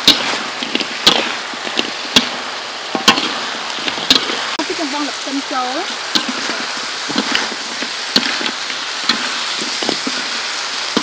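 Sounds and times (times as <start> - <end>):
metal spatula scraping a pan: 0.0 - 4.6, 5.9 - 11.0
chicken sizzling in a wok: 0.0 - 11.0.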